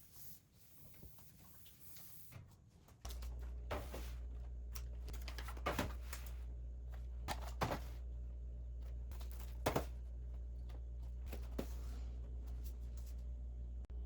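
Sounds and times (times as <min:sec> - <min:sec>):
steady low hum: 0:02.3 - 0:14.0.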